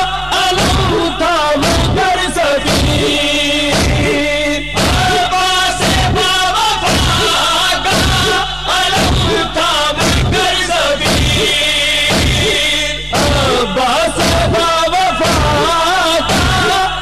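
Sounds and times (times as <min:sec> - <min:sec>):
low thumping beat: 0:00.0 - 0:17.0
man singing a chanted melody: 0:00.0 - 0:17.0.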